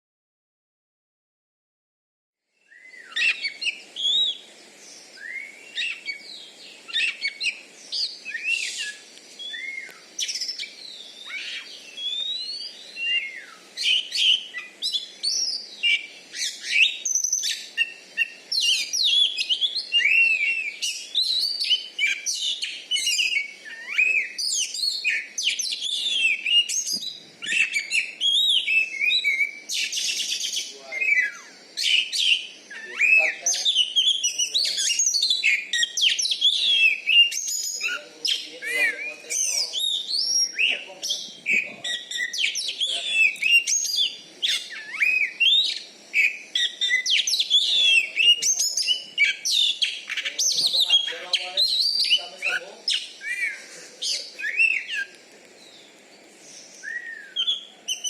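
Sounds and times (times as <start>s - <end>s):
songbird whistling and chattering: 2.6s - 58.0s.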